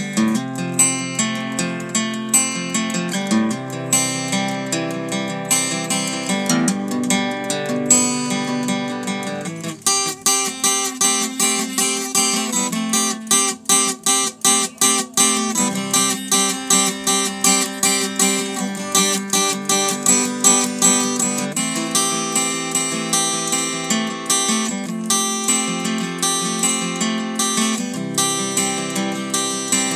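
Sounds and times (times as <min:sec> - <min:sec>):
acoustic guitar strumming: 0:00.0 - 0:29.9.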